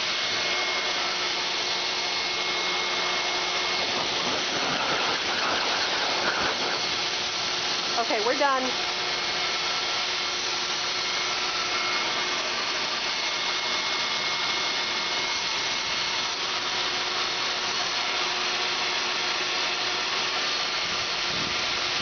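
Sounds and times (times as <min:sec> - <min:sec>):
dog grooming dryer blowing air: 0:00.0 - 0:22.0.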